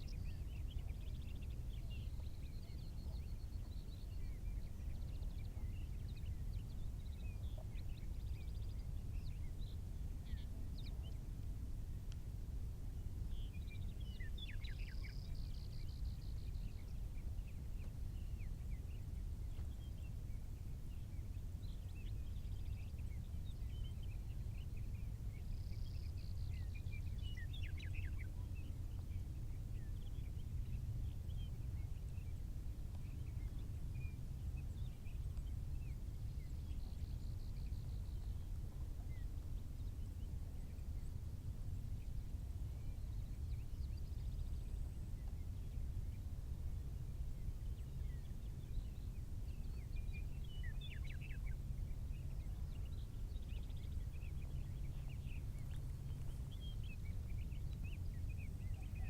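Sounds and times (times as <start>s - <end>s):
songbirds chirping: 0.0s - 59.0s
steady low rumble: 0.0s - 59.0s.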